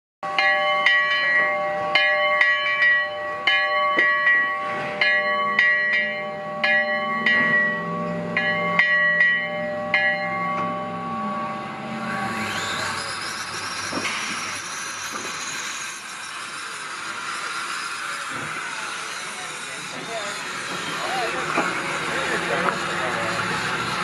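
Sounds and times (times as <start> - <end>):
locomotive bell ringing: 0.2 - 24.0.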